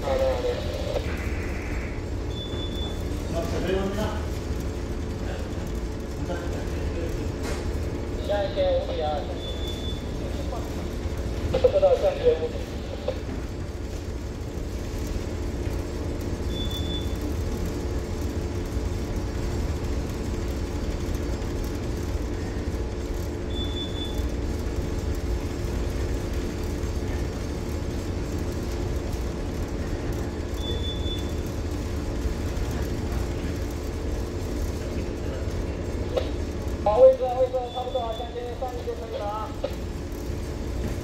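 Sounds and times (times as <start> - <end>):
ship engine drone: 0.0 - 41.0.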